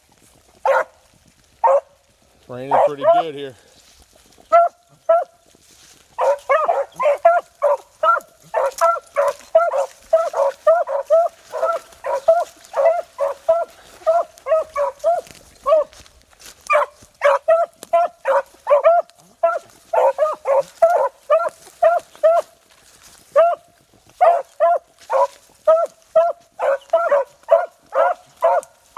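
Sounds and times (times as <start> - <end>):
dogs baying: 0.6 - 1.0, 1.6 - 2.0, 2.7 - 3.3, 4.5 - 5.4, 6.1 - 22.6, 23.3 - 28.9.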